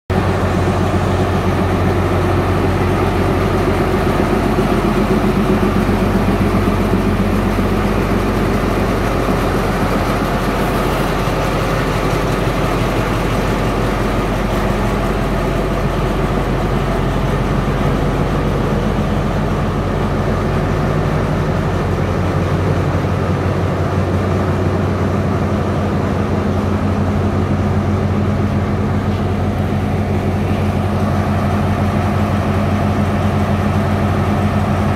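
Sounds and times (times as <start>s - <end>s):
diesel locomotive idling: 0.1s - 34.9s.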